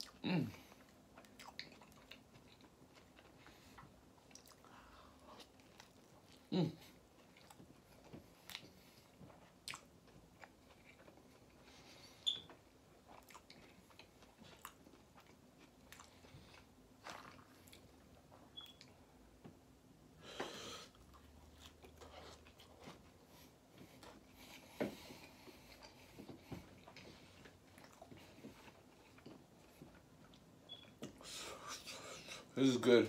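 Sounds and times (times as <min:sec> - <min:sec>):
chewing taco: 0:00.0 - 0:19.3, 0:20.2 - 0:32.5.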